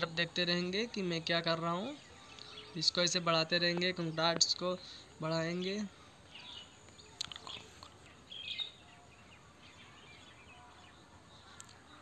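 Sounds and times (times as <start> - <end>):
faint chirps: 0.3 - 12.0.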